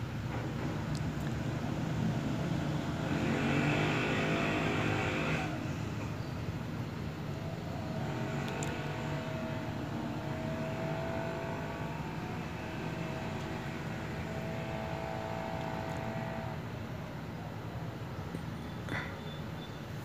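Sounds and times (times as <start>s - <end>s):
engine drone: 0.0s - 20.0s.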